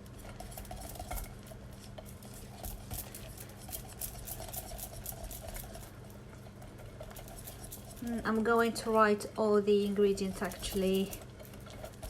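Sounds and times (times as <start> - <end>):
utensil beating batter in bowl: 0.0 - 12.0.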